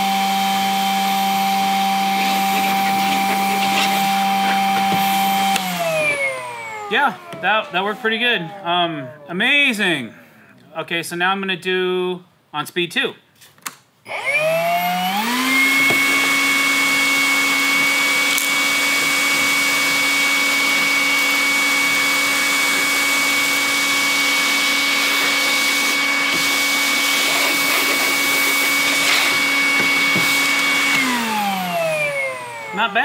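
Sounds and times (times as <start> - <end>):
nozzle sucking sawdust: 0.0 - 8.5, 14.9 - 33.0
shop vacuum motor whine: 0.0 - 10.5, 14.1 - 33.0.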